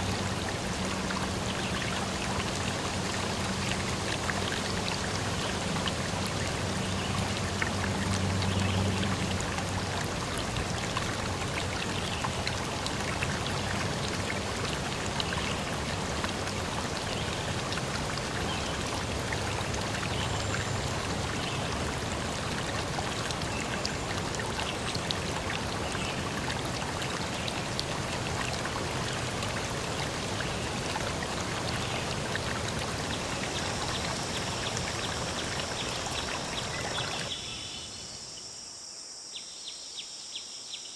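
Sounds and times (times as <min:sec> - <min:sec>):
water rushing: 0:00.0 - 0:37.4.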